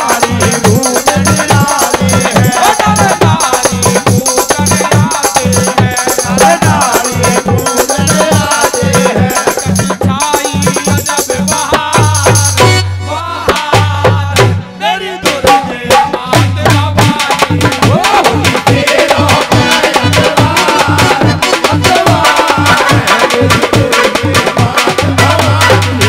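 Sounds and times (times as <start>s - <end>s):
rattling percussion: 0.0s - 12.8s, 15.3s - 26.0s
repeating drum rhythm: 0.0s - 26.0s.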